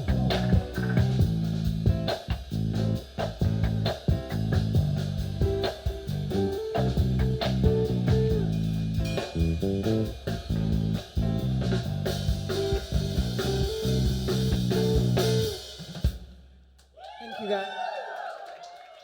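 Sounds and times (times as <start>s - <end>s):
live band playing: 0.0s - 15.8s.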